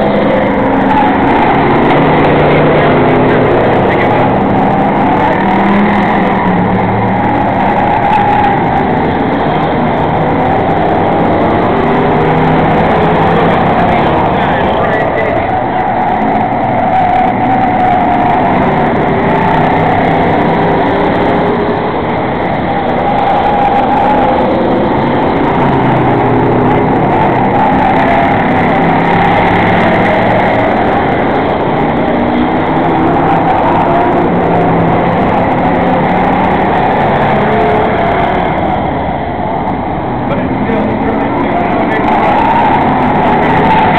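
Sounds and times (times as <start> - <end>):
race car engines: 0.0 - 43.9.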